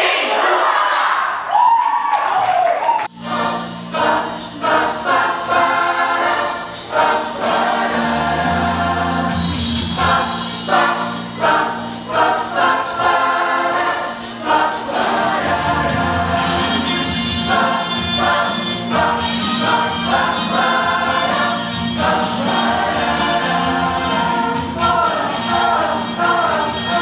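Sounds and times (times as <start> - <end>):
choir singing: 0.0 - 1.4, 3.1 - 27.0
held bass notes: 3.2 - 27.0.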